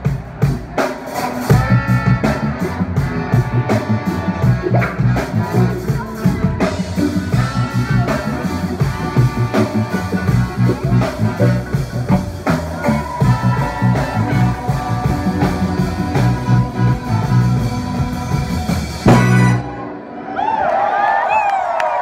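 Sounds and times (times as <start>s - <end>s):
live funk band playing: 0.0s - 20.4s.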